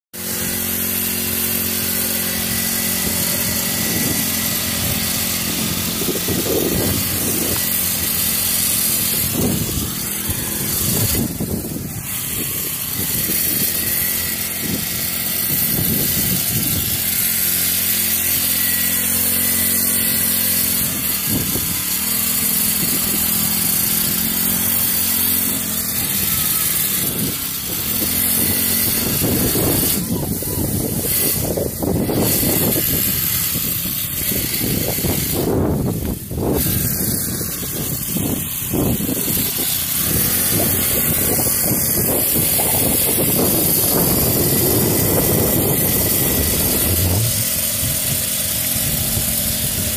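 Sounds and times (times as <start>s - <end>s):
small motorbike engine revving: 0.2s - 49.9s.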